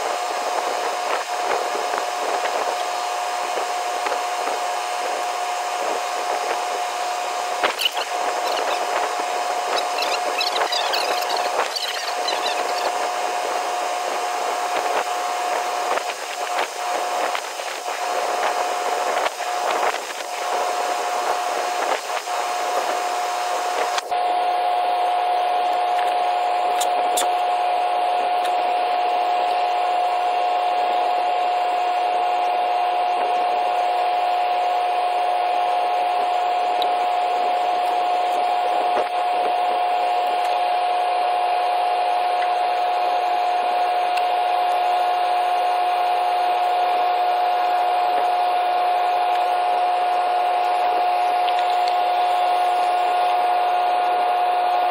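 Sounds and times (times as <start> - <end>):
constant mid-pitched tone: 0.0 - 54.9
machine hum and hiss: 0.0 - 54.9.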